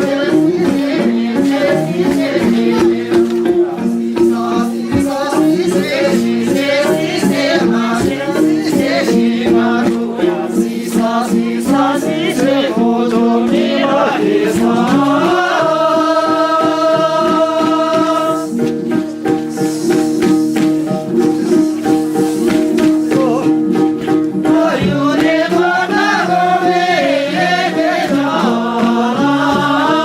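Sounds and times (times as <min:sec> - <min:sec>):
voices singing with vibrato: 0:00.0 - 0:18.7, 0:21.3 - 0:30.0
plucked-string tune: 0:00.0 - 0:30.0
rhythmic rattling beat: 0:00.0 - 0:30.0.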